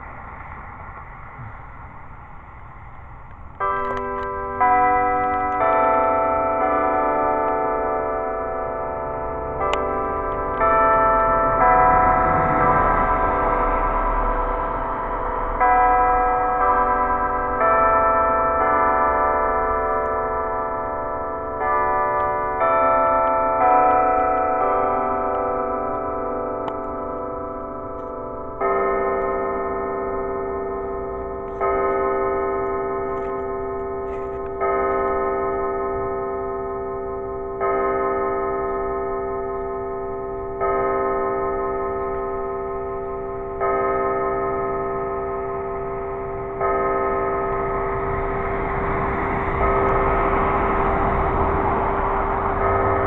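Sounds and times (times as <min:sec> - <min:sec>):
church bells chiming: 0:00.0 - 0:53.0.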